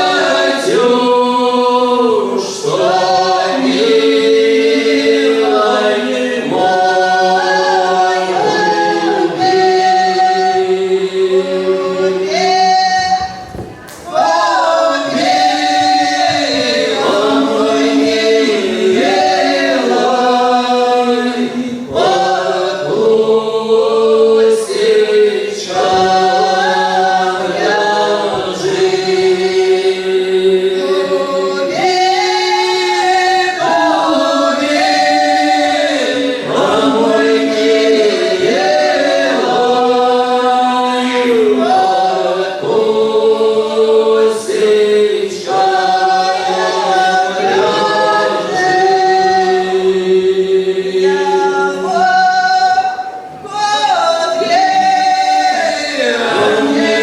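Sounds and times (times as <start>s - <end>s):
group singing in harmony: 0.0s - 57.0s.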